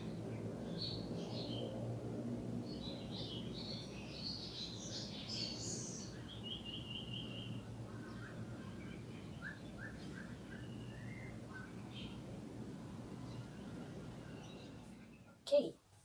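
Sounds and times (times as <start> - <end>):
small songbirds chirping: 0.0 - 15.4
low background hum: 0.0 - 16.0.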